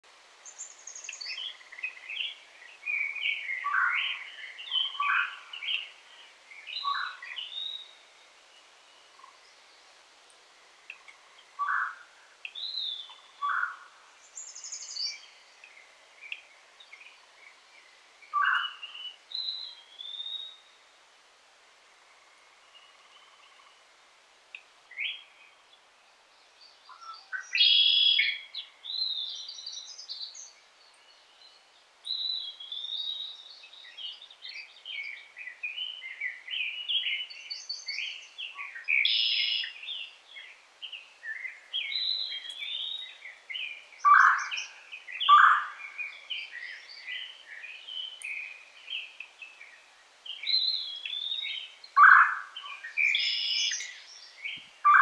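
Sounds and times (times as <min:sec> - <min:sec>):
songbirds singing: 0:00.0 - 0:21.2, 0:21.8 - 0:55.0.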